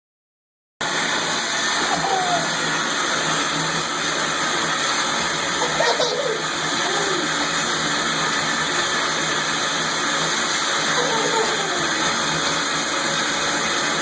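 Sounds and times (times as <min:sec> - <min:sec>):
running water hissing: 0:01.2 - 0:14.0.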